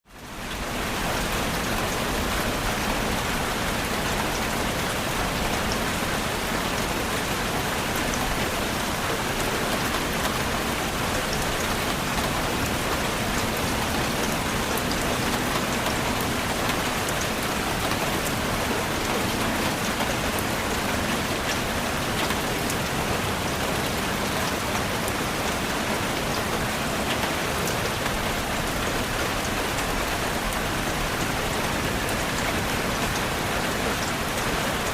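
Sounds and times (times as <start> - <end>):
steady rain hissing: 0.1 - 34.9
raindrops pattering: 0.2 - 34.9.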